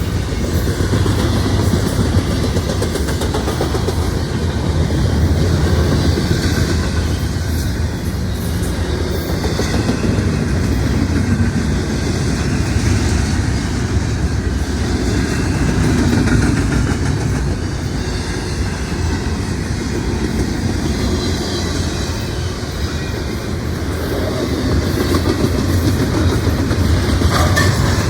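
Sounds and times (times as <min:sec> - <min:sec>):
deep train rumble: 0:00.0 - 0:28.0
train wheels clickety-clack: 0:00.0 - 0:28.0.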